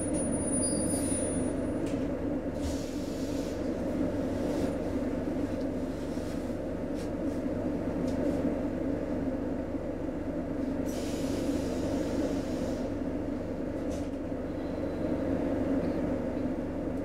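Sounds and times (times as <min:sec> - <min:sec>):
train cabin hum: 0:00.0 - 0:17.0.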